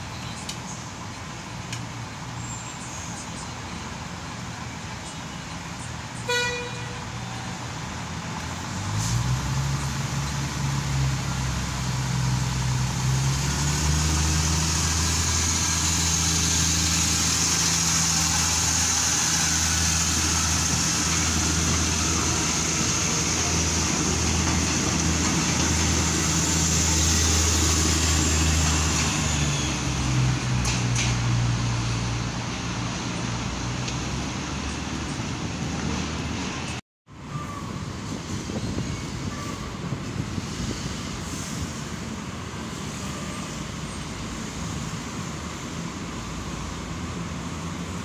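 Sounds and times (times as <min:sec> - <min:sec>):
diesel train engine drone: 0:00.0 - 0:48.0.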